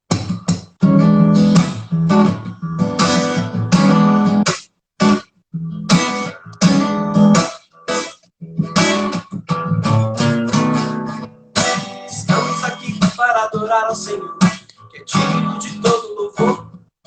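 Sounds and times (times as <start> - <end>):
acoustic guitar strumming chords: 0.1 - 16.9.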